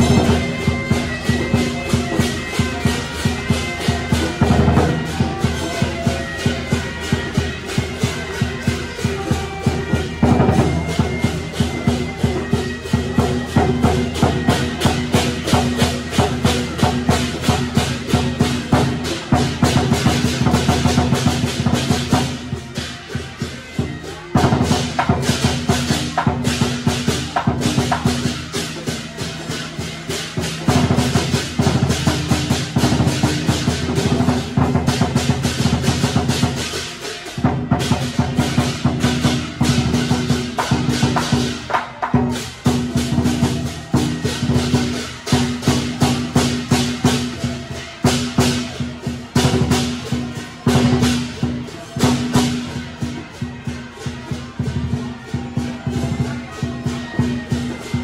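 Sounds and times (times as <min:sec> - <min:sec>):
fast drum and wood-block music: 0:00.0 - 0:58.0.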